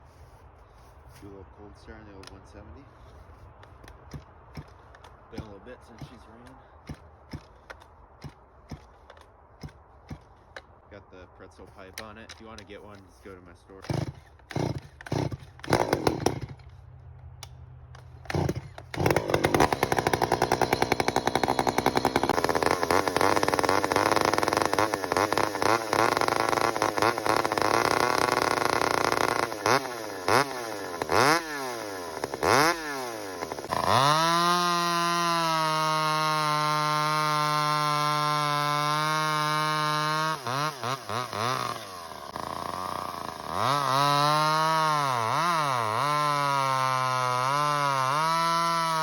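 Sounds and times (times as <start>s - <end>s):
chainsaw revving: 4.1s - 10.3s, 13.7s - 16.8s, 18.0s - 49.0s.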